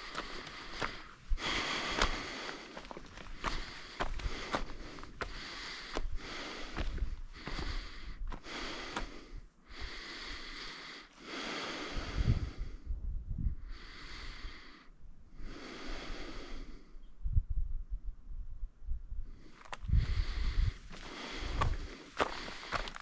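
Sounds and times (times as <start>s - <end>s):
person breathing heavily: 0.0s - 17.0s, 19.3s - 23.0s.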